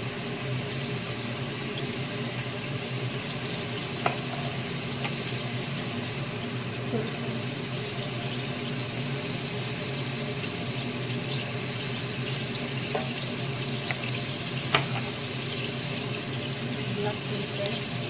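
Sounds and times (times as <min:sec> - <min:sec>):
meat simmering in a pot: 0:00.0 - 0:18.0.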